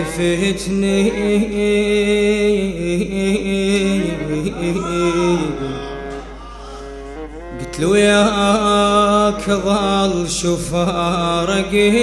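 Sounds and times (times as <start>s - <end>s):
man singing a lament: 0.0s - 12.0s.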